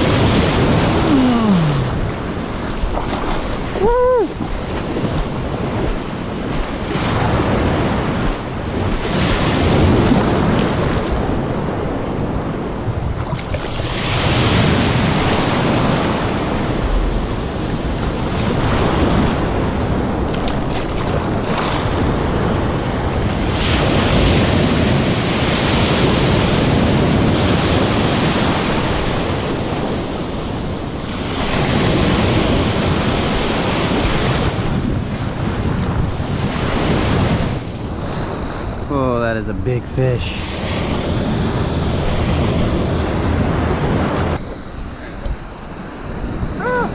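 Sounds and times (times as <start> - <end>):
ocean surf washing: 0.0 - 46.9
wind rumbling on microphone: 0.0 - 46.9.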